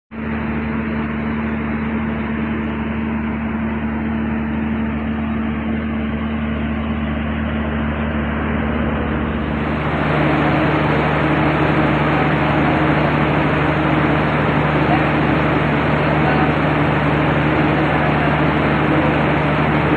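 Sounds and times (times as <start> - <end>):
diesel engine running: 0.2 - 19.9.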